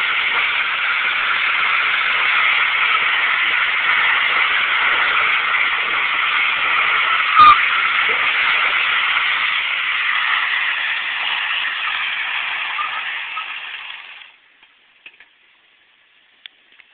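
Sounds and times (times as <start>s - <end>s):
tyres hissing on wet pavement: 0.0s - 14.5s.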